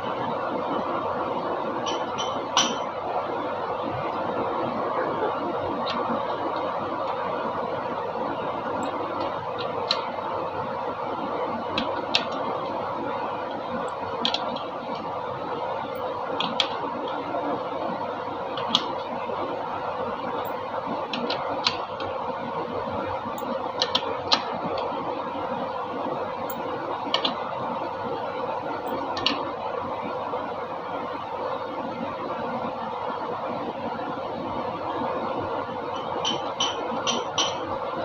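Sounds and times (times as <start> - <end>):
mechanical whirring hum: 0.0 - 38.0.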